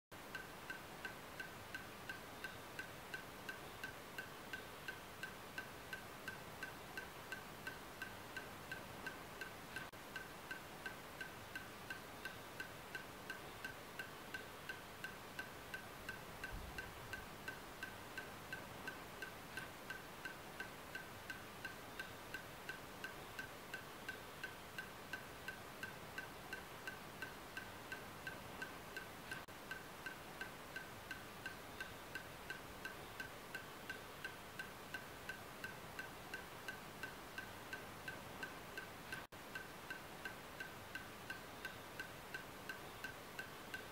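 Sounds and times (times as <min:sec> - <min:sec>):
soft pitched ticking: 0:00.1 - 0:43.9
faint hiss: 0:00.2 - 0:43.9.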